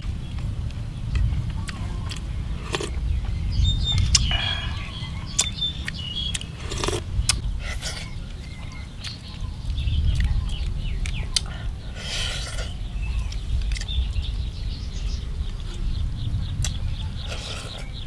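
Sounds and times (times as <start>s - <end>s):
low rumble: 0.0s - 18.0s
small birds chirping: 0.0s - 18.0s.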